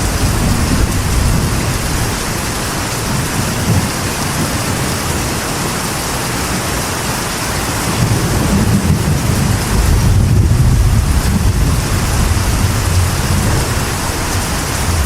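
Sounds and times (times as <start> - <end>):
thunder rolling: 0.0 - 5.2, 7.9 - 15.0
rain drumming on metal roof: 0.0 - 15.0.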